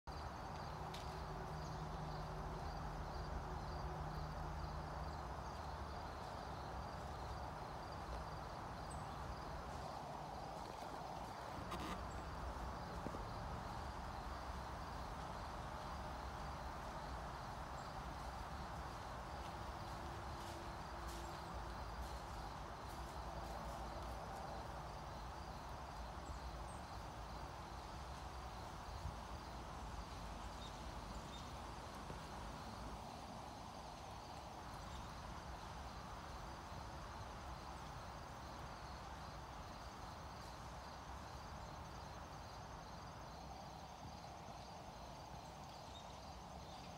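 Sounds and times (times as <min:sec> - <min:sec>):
insects chirping: 0:00.1 - 0:46.9.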